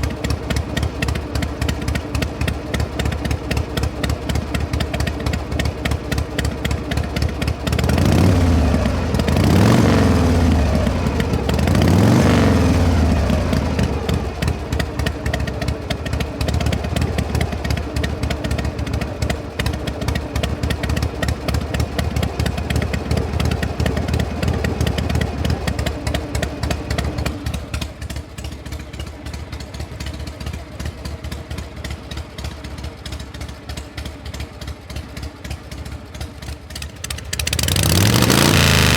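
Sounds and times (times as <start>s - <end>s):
engine idling and revving: 0.0s - 38.9s.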